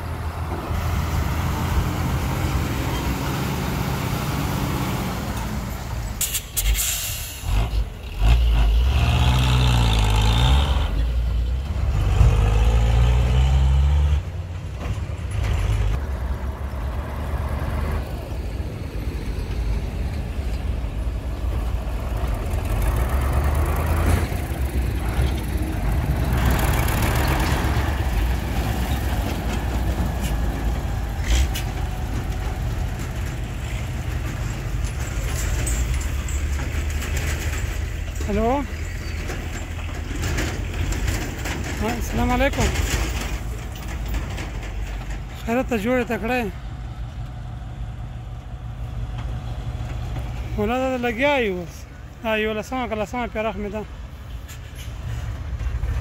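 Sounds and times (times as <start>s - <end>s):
truck engine pulling away: 0.0s - 52.5s
dump truck engine rumble: 0.0s - 56.0s.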